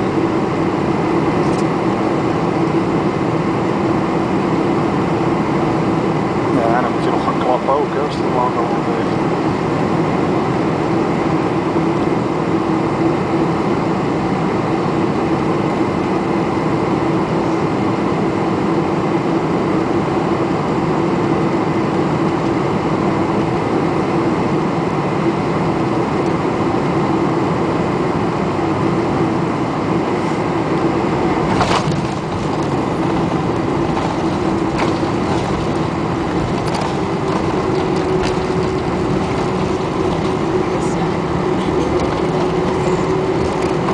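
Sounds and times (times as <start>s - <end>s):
airliner cabin engine and air noise: 0.0s - 43.9s
constant low hum: 0.0s - 43.9s.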